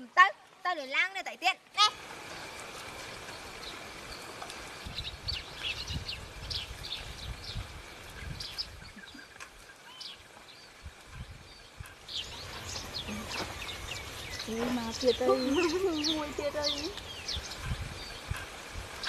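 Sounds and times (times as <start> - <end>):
small birds chirping: 0.7 - 19.0.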